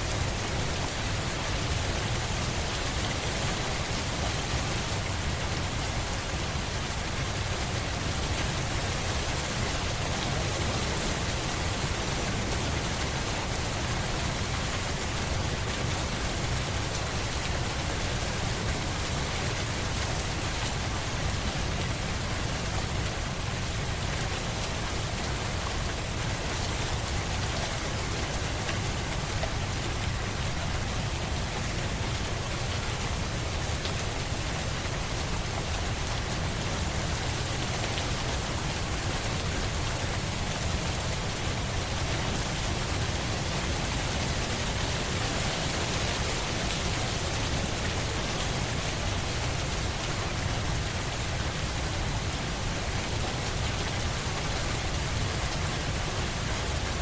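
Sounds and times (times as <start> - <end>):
rain hissing on a surface: 0.0 - 57.0.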